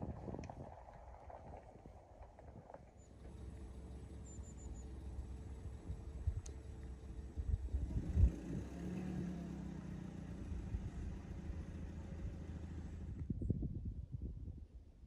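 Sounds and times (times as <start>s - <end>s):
vehicle engine rumbling: 0.0s - 13.4s.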